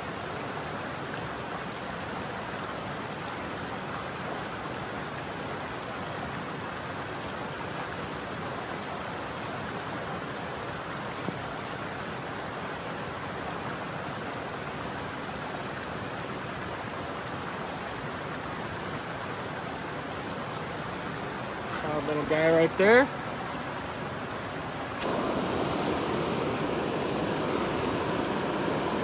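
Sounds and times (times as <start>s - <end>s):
creek flowing: 0.0s - 29.0s
rain falling: 0.0s - 29.0s.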